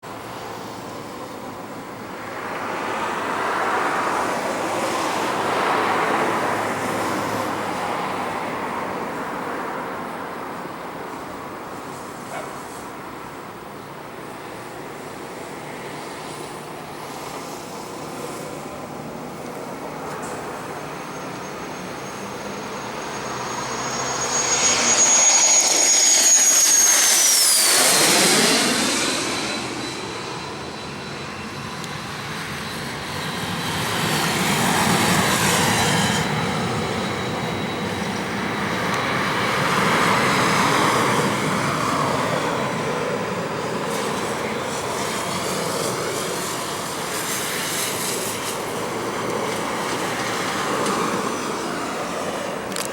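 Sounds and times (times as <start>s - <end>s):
jet engines passing by: 0.0s - 52.9s.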